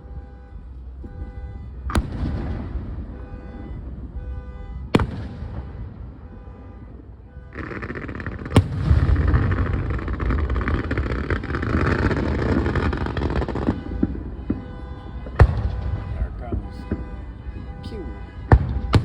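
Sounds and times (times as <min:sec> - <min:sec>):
firework bangs: 0:01.0 - 0:19.0.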